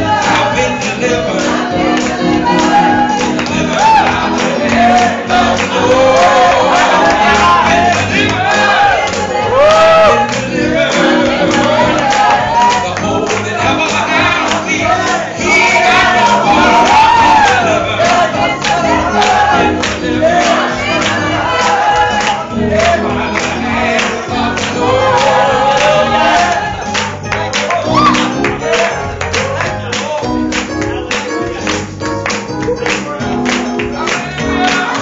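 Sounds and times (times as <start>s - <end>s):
bass: 0.0s - 35.0s
gospel singing: 0.0s - 35.0s.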